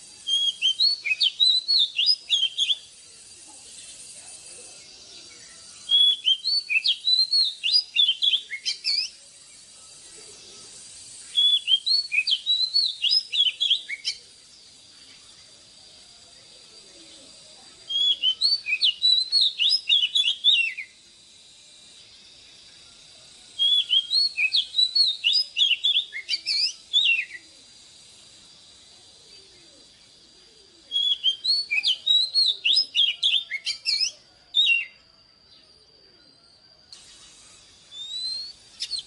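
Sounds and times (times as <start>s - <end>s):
bird singing varied notes: 0.0s - 15.7s, 16.5s - 21.0s, 23.6s - 28.2s, 28.8s - 39.0s.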